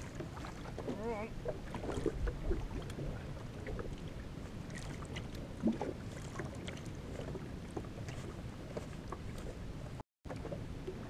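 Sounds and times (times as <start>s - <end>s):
wind and water noise: 0.0s - 11.0s.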